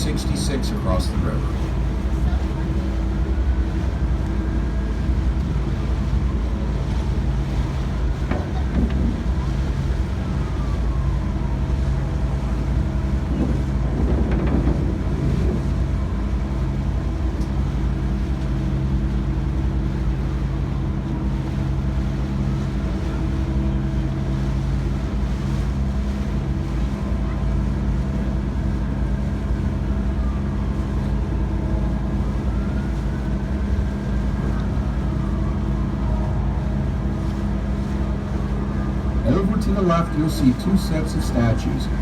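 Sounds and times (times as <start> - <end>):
boat engine droning: 0.0 - 42.0
wind buffeting microphone: 1.4 - 39.5.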